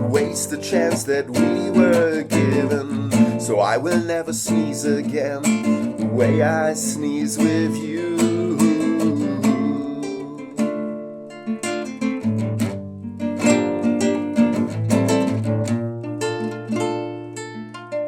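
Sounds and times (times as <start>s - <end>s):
acoustic guitar strumming and picking: 0.0s - 18.0s.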